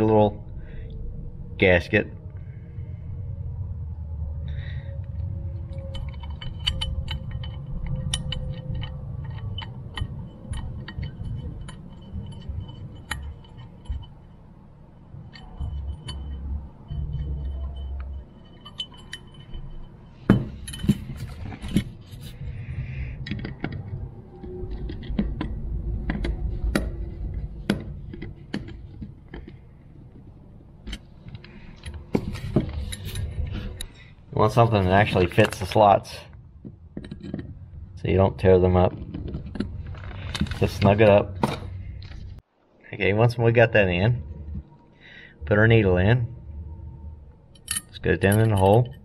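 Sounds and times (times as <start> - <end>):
low handling rumble: 0.0 - 49.0
metal parts clicking and clinking: 4.5 - 42.4, 47.0 - 49.0.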